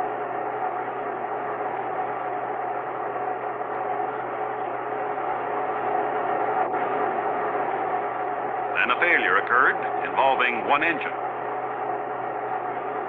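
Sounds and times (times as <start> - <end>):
muffled rocket engine roar: 0.0 - 13.0
steady hum: 0.0 - 13.0.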